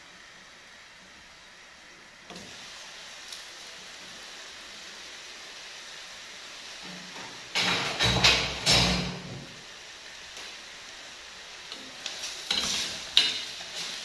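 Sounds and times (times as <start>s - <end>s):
cooking pots hissing: 0.0s - 14.0s.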